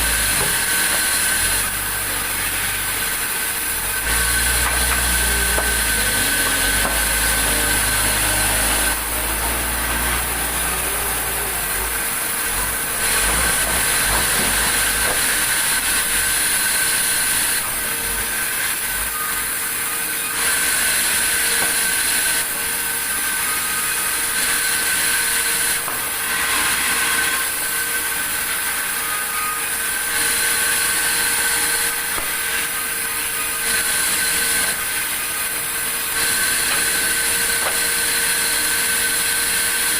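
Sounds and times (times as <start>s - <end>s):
saw cutting through a log: 0.0s - 39.9s.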